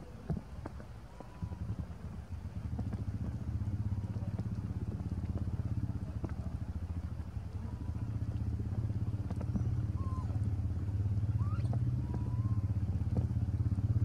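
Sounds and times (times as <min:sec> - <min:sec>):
low engine throbbing: 0:01.1 - 0:14.0.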